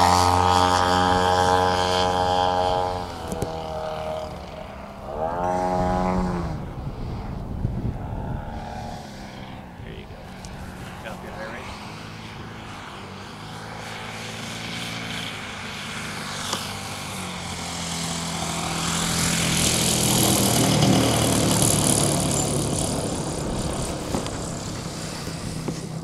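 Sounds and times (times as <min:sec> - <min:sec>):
model airplane engine and propeller: 0:00.0 - 0:26.0.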